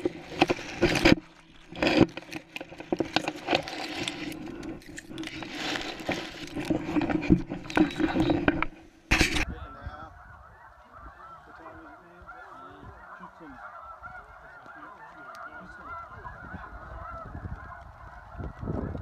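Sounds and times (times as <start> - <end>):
dry grass rustling: 0.0 - 9.5, 10.3 - 19.0
flock of geese honking: 0.0 - 19.0.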